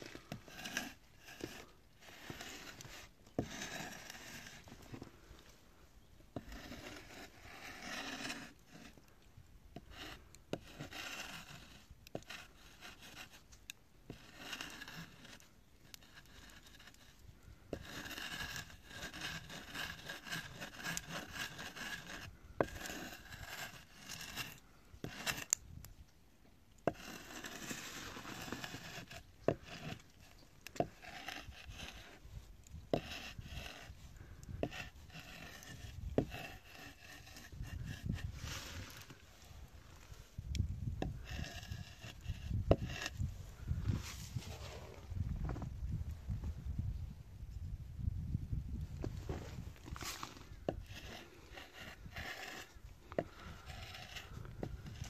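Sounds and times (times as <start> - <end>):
wood scraping and rubbing: 0.0 - 5.5, 6.4 - 9.1, 9.8 - 13.5, 14.1 - 25.6, 26.8 - 40.3, 41.0 - 45.8, 49.0 - 55.0.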